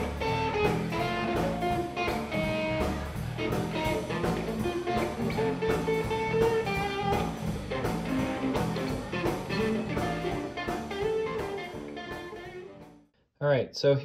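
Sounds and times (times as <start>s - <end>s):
bluesy guitar with drum beat: 0.0s - 13.1s.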